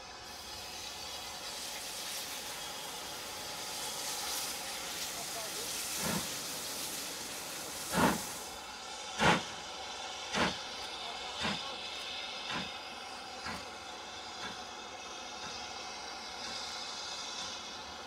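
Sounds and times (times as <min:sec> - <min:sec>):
steam hissing: 0:00.0 - 0:18.0
steam locomotive chuffs: 0:00.0 - 0:18.0.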